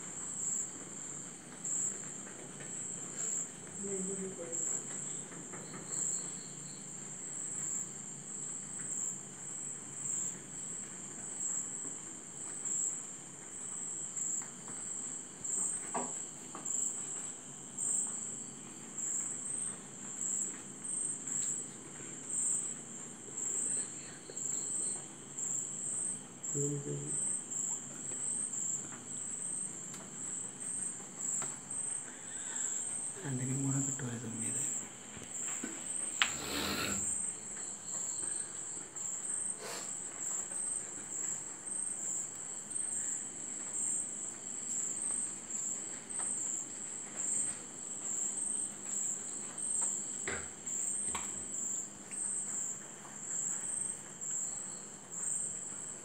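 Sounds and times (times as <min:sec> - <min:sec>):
insects chirping in a trill: 0:00.0 - 0:56.0.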